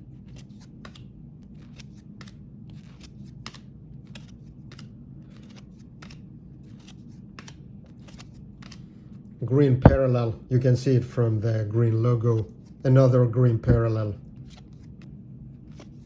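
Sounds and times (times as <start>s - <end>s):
steady low hum: 0.0s - 16.0s
cards flipping and sliding: 0.1s - 10.1s, 12.0s - 16.0s.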